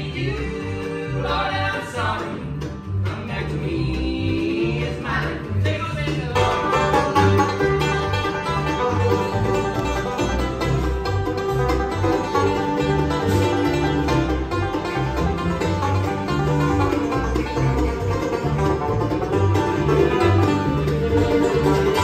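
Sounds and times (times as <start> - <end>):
banjo picking: 0.0 - 22.0
bass line: 0.0 - 22.0
guitar: 0.0 - 22.0.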